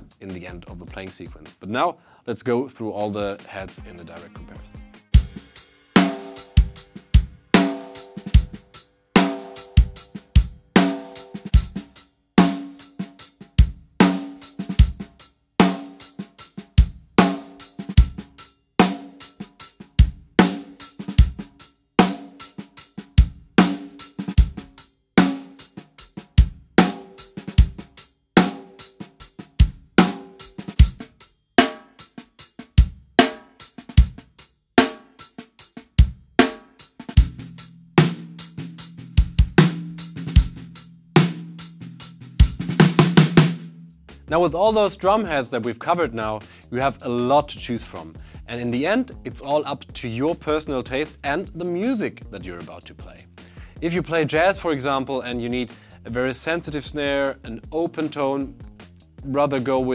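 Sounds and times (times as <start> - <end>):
drum kit playing a beat: 0.0 - 59.9.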